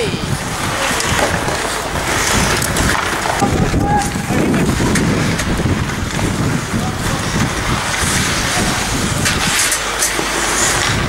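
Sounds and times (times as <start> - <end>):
crowd and hall rumble: 0.0 - 11.0
skates scraping ice: 0.0 - 11.0.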